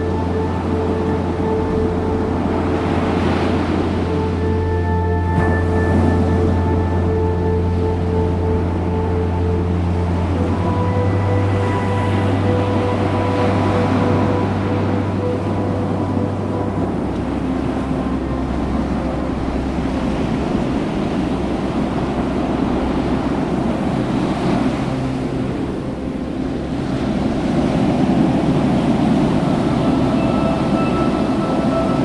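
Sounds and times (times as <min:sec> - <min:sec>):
faint held tones: 0:00.0 - 0:32.0
ocean surf: 0:00.0 - 0:32.0.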